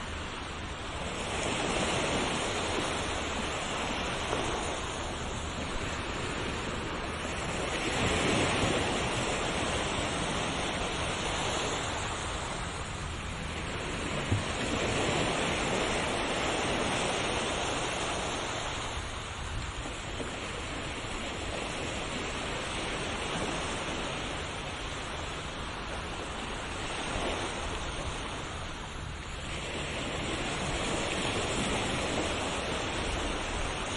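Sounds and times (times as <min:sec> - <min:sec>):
ocean surf washing in: 0:00.0 - 0:33.9.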